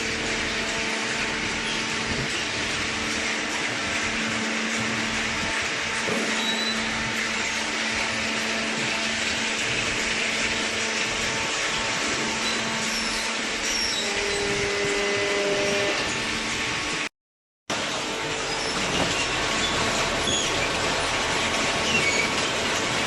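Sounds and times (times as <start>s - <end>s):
shredding machinery running: 0.0s - 17.1s, 17.7s - 23.0s.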